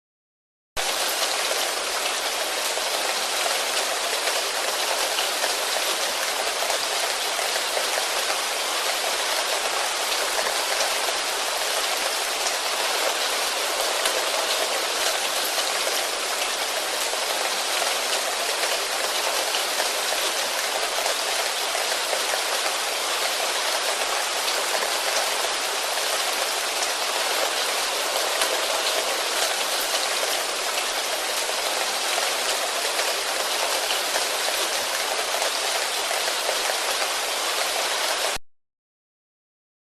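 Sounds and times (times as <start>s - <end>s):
rain falling on foliage: 0.8s - 38.4s.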